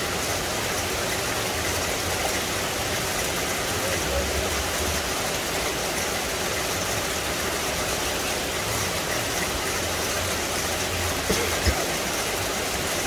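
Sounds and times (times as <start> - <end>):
steady rain in forest: 0.0 - 13.0.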